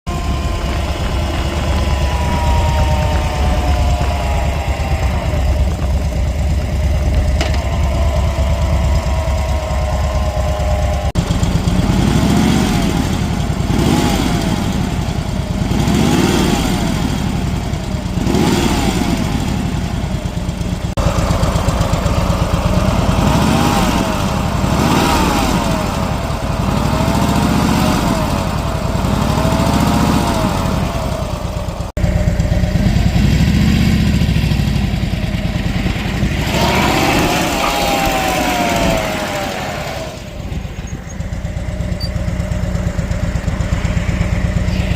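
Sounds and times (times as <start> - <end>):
motorcycle engine idling and revving: 0.0 - 44.9
whine rising with revs: 0.1 - 44.9.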